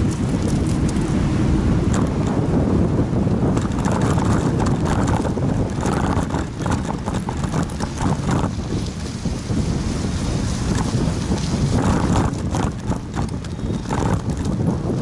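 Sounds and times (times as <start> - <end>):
bike rattling over stone paving: 0.0 - 1.2, 3.4 - 15.0
wind buffeting microphone: 0.0 - 15.0.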